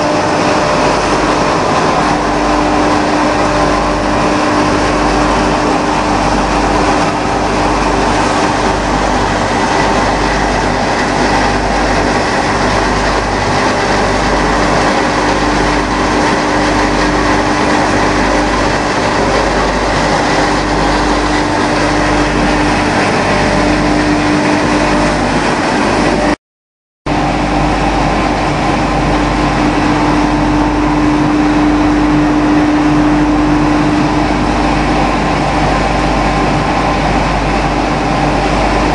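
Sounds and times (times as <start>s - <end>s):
industrial machinery running: 0.0s - 26.4s, 27.1s - 38.9s.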